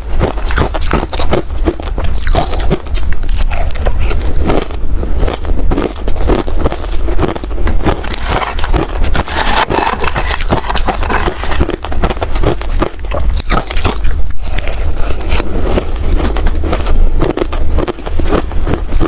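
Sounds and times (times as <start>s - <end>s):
ice crunching between teeth: 0.1s - 19.0s.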